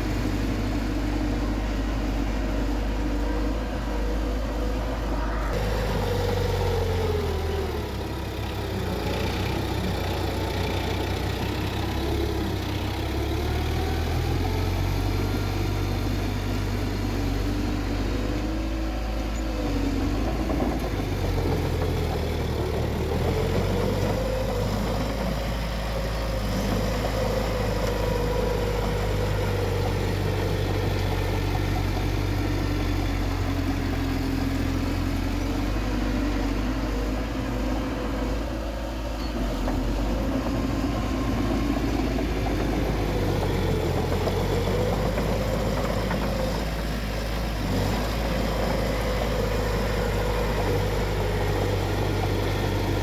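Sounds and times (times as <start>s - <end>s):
bulldozer diesel engine rumbling: 0.0s - 53.0s.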